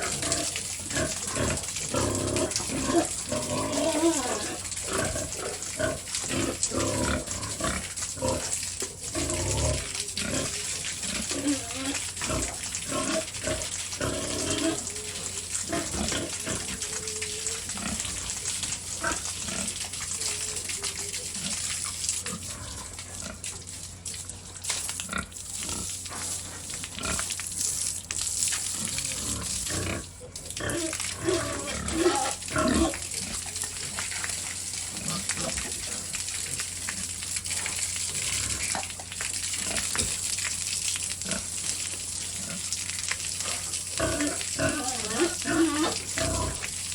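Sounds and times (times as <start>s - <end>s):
pigs grunting and squealing: 0.0s - 23.5s, 25.1s - 27.4s, 28.6s - 40.3s, 43.4s - 46.9s
spraying water: 0.0s - 46.9s.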